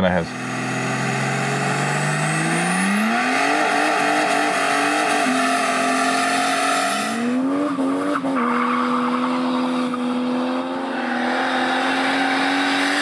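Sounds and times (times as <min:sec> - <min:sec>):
diesel car engine accelerating: 0:00.0 - 0:13.0.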